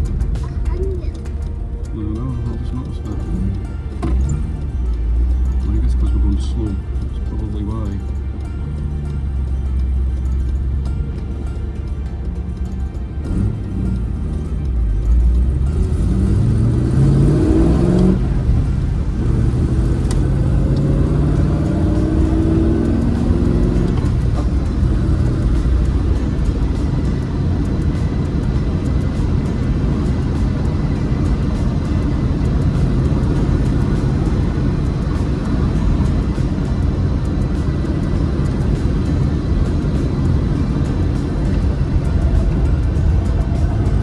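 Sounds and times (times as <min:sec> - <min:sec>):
car engine accelerating: 0:00.0 - 0:44.0
road and wind noise: 0:00.0 - 0:44.0.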